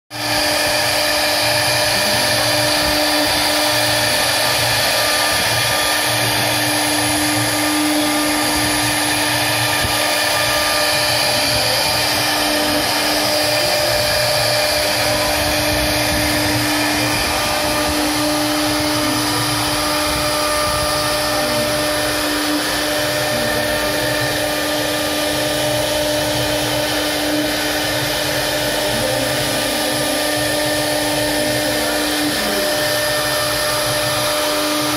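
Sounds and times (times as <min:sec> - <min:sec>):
router spindle whining: 0:00.1 - 0:34.9.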